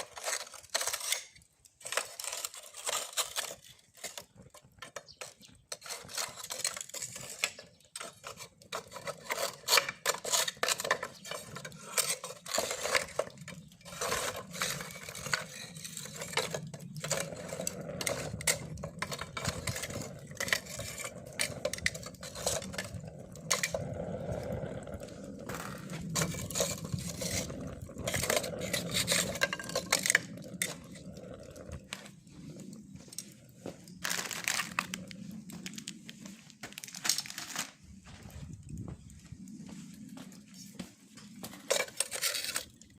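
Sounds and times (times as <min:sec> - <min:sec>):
charcoal clinking and scraping: 0:00.0 - 0:35.9, 0:36.6 - 0:37.8, 0:41.4 - 0:42.9.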